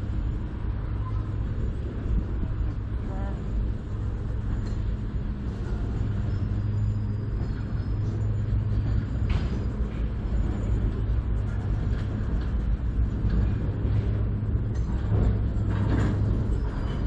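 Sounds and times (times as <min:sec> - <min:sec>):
train clank: 0:00.0 - 0:17.0
train wheels rumbling on track: 0:00.0 - 0:17.0.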